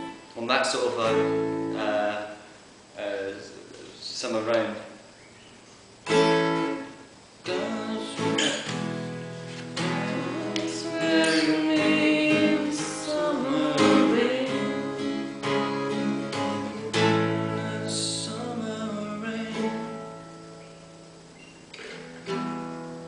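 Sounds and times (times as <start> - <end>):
acoustic guitar strumming chords: 0.0 - 2.6, 6.0 - 23.0.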